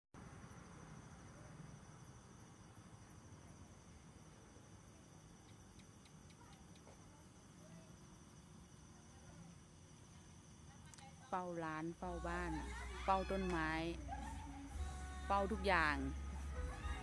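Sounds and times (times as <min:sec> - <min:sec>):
crickets trilling: 0:00.2 - 0:17.0.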